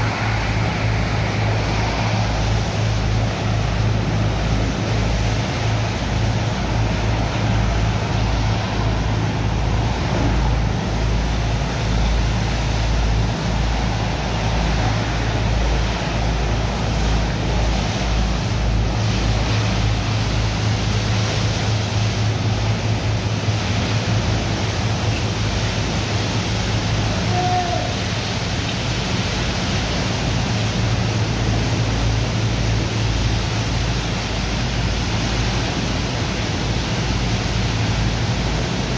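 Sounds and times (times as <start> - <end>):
pump engine hum: 0.0 - 38.9
water jets spraying sand: 0.0 - 38.9.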